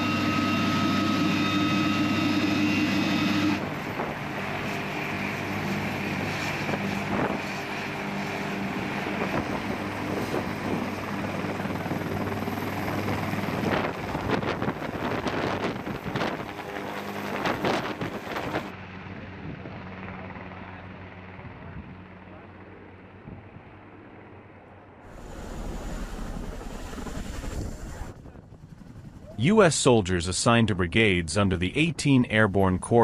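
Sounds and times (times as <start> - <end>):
helicopter rotor and turbine drone: 0.0 - 33.0.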